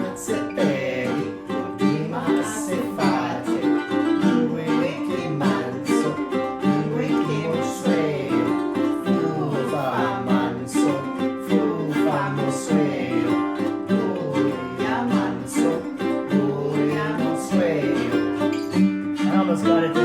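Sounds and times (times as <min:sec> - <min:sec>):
plucked string accompaniment: 0:00.0 - 0:20.0
voices singing: 0:00.0 - 0:20.0.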